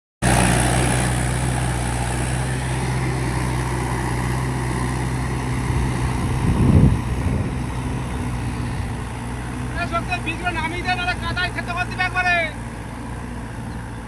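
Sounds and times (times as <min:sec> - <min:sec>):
tractor diesel engine running: 0:00.2 - 0:14.0.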